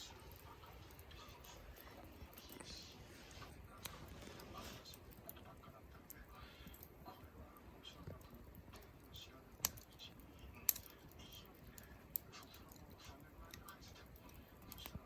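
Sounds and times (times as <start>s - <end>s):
firewood crackling: 0.0s - 15.0s.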